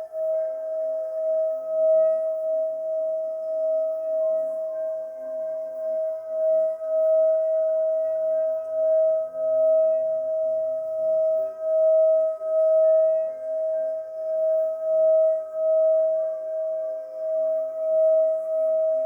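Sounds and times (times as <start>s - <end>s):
singing bowl ringing: 0.0s - 19.0s.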